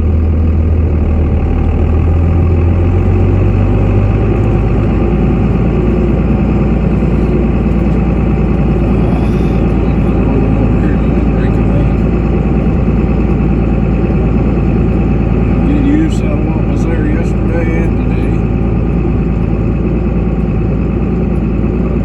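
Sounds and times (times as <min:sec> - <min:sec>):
truck engine hum: 0:00.0 - 0:22.0.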